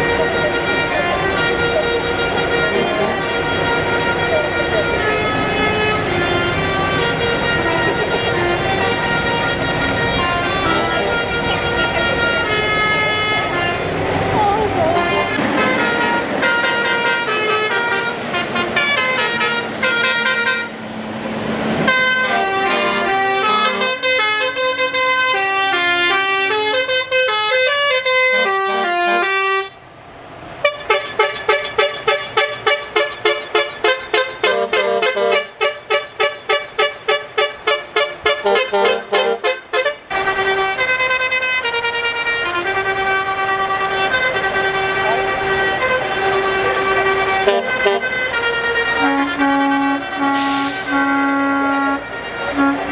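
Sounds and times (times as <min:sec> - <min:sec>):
musical air horns playing a tune: 0:00.0 - 0:29.8, 0:30.6 - 0:52.9.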